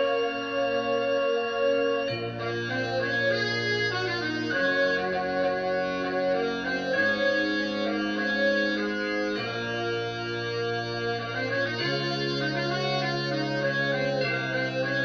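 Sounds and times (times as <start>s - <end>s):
concert band playing slow chords: 0.0s - 15.0s.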